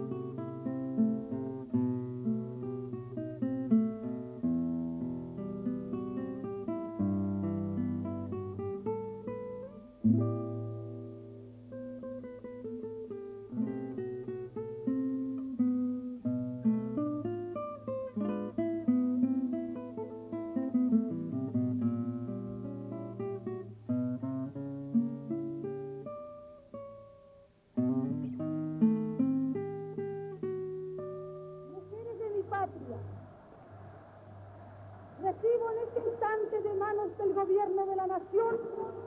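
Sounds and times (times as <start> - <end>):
acoustic guitar plucked: 0.0 - 39.0.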